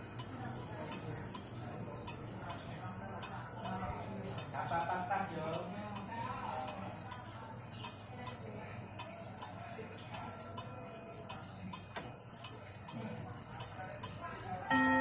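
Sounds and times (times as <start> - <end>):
wall clock ticking: 0.0 - 15.0.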